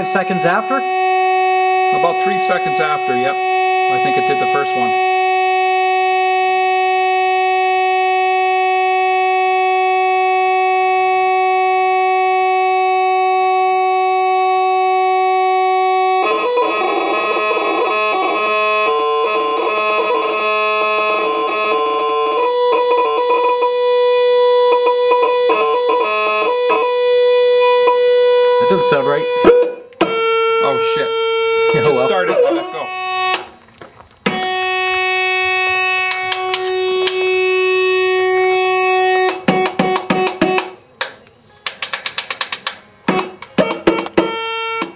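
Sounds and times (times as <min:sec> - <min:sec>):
loud fog horn tone: 0:00.0 - 0:33.6, 0:34.2 - 0:40.9, 0:43.2 - 0:44.9.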